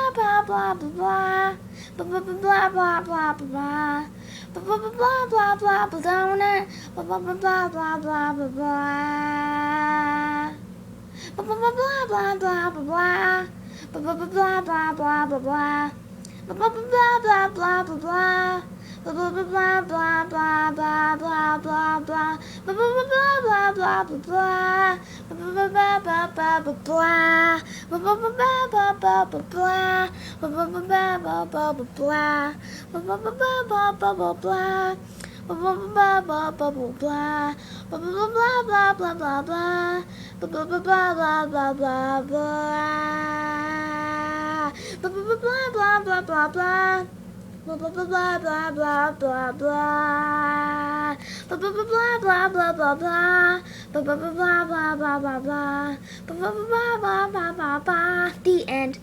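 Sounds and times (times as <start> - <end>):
child singing: 0.0 - 10.6, 11.4 - 47.1, 47.7 - 59.0.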